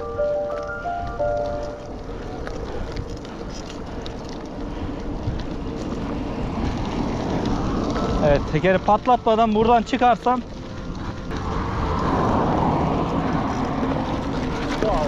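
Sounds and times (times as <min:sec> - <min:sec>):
bike tyres on stony ground: 0:00.0 - 0:15.0
wind buffeting microphone: 0:00.0 - 0:15.0.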